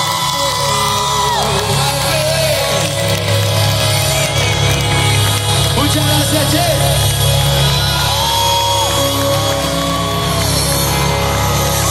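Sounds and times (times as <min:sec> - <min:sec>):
person singing: 0:00.0 - 0:11.9.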